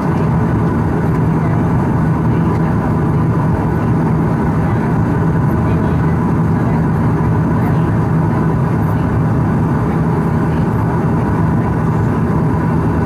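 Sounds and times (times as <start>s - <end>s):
propeller drone: 0.0s - 13.0s.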